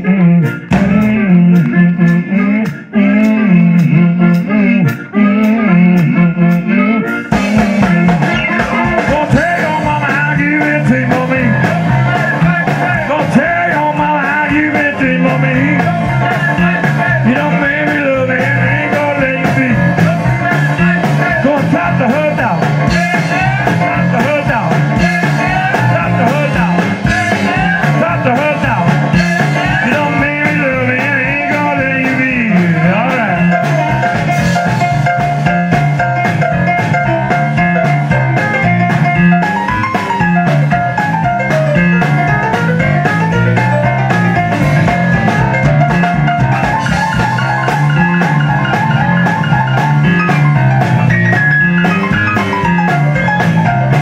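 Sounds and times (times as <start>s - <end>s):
amplified harmonica: 0.0s - 54.0s
blues band playing: 0.0s - 54.0s.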